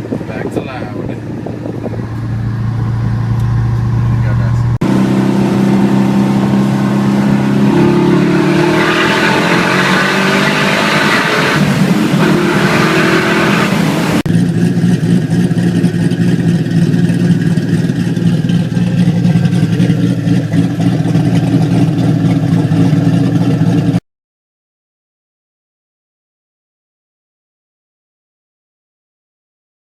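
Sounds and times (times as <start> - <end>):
car engine and exhaust drone: 0.0 - 24.0.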